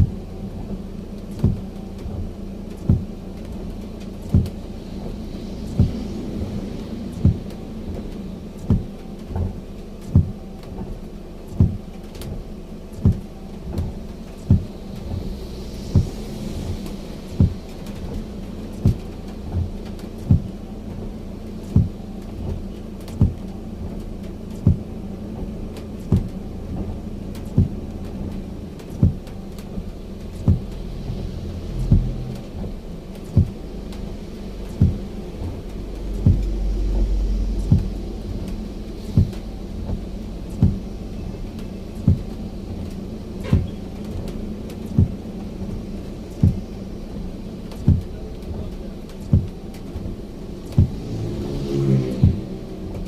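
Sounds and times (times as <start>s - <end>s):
low rumble: 0.0s - 53.0s
low thumps: 0.0s - 53.0s
steady low hum: 0.0s - 53.0s.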